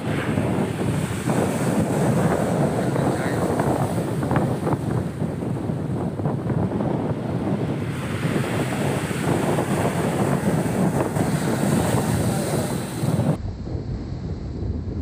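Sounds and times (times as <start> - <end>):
surf breaking over rocks: 0.0 - 13.4
wind noise on microphone: 0.0 - 15.0.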